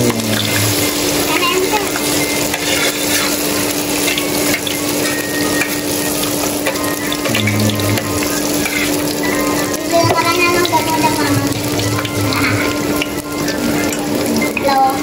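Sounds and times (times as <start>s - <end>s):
deep-frying sizzle in oil: 0.0s - 15.0s.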